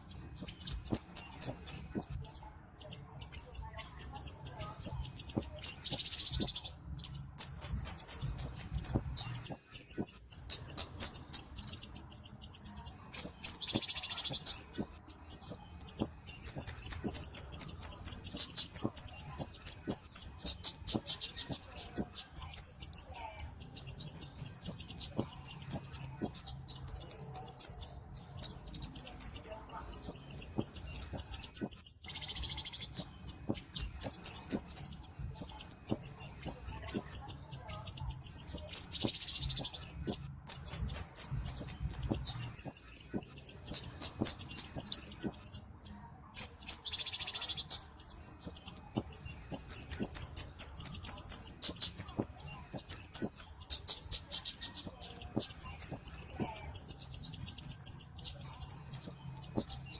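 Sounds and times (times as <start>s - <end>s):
bird chirping high-pitched: 0.0s - 59.9s.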